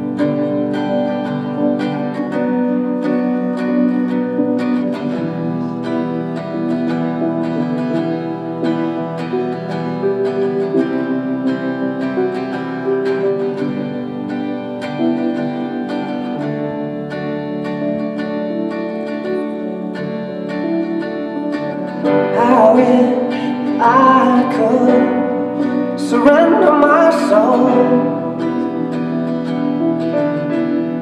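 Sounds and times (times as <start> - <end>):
plucked acoustic guitar: 0.0 - 31.0.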